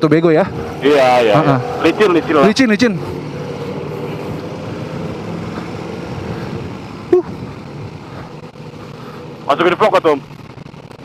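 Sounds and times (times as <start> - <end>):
motorcycle engine idling: 1.6 - 11.0.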